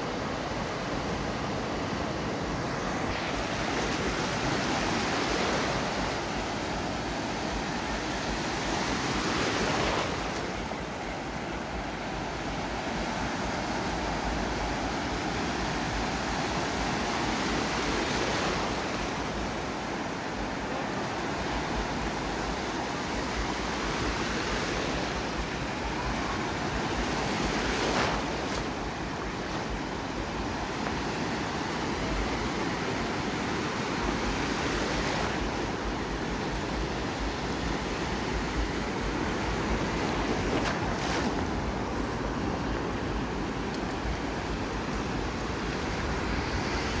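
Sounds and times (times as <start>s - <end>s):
sea surf washing onto beach: 0.0s - 47.0s
waves breaking: 0.0s - 47.0s.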